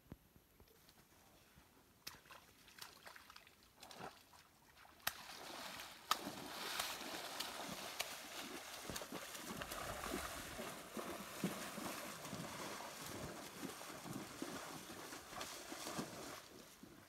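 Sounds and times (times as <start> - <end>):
animals splashing in muddy water: 2.0 - 17.0.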